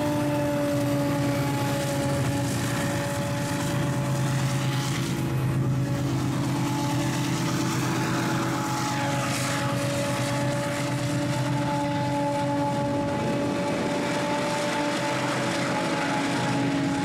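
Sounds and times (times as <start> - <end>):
freight cars rolling: 0.0 - 17.0
locomotive engine drone: 0.0 - 17.0.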